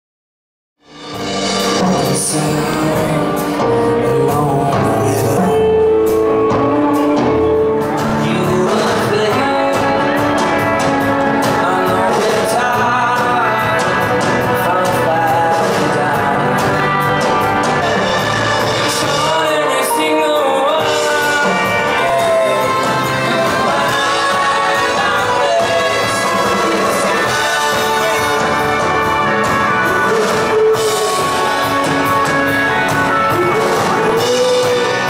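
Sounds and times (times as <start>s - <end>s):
drums: 0.8s - 35.0s
guitars: 0.8s - 35.0s
upright double bass: 1.2s - 35.0s
man singing: 1.6s - 35.0s.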